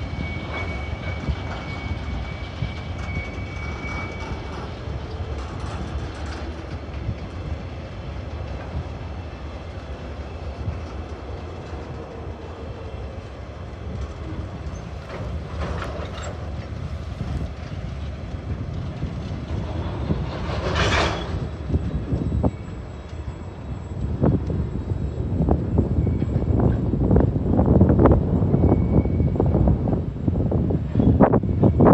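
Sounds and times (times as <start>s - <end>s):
train wagons rumbling over bridge: 0.0s - 31.9s.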